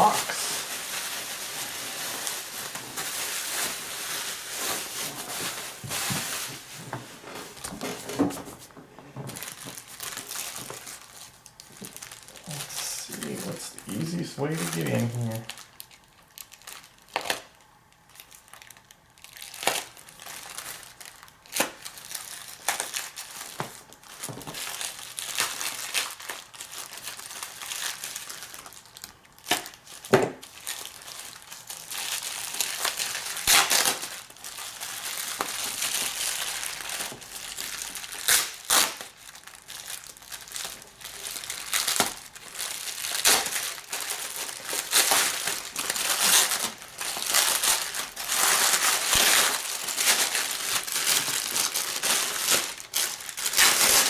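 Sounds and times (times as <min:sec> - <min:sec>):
packaging crinkling and tearing: 0:00.0 - 0:54.0.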